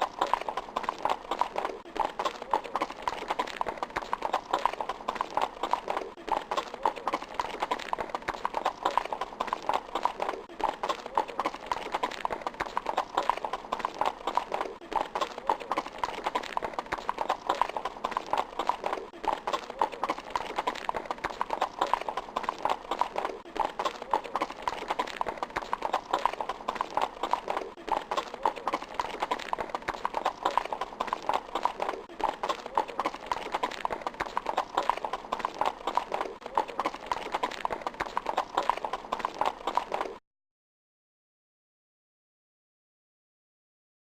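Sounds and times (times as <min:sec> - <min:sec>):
horses galloping: 0:00.0 - 0:40.2.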